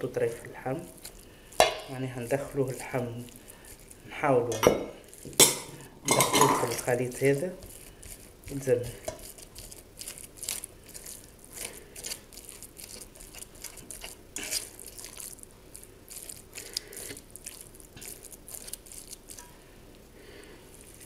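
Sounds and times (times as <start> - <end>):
hand squelching food mixture: 0.0 - 21.0.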